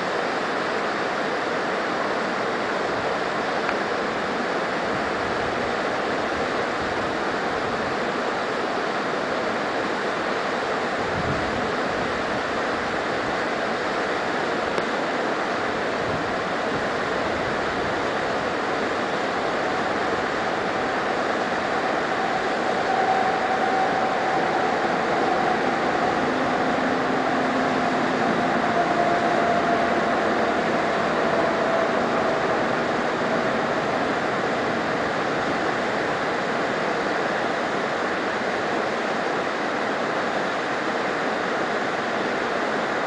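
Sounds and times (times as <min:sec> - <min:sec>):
rushing of moving air: 0:00.0 - 0:43.0.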